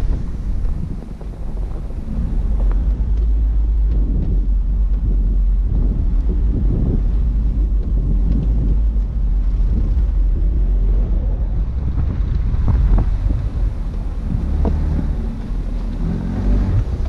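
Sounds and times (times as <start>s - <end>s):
car driving on rough track: 0.0s - 17.0s
wind buffeting microphone: 0.0s - 17.0s.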